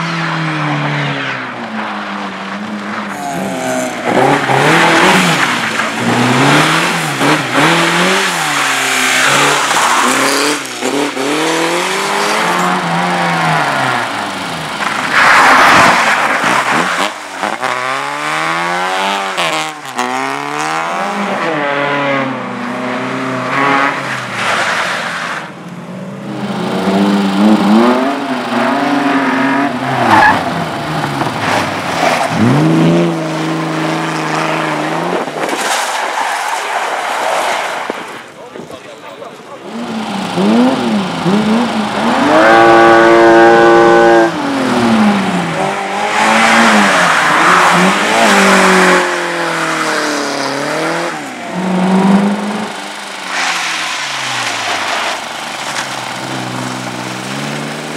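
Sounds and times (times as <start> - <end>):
race car engine revving: 0.0 - 57.9
tyres squealing and skidding: 1.0 - 18.8, 22.6 - 25.6, 27.7 - 52.0, 52.8 - 57.9.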